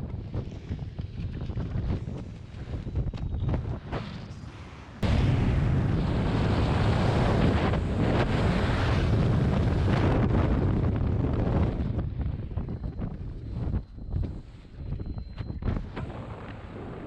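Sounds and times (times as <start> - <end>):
heavy wind on microphone: 0.0 - 17.0.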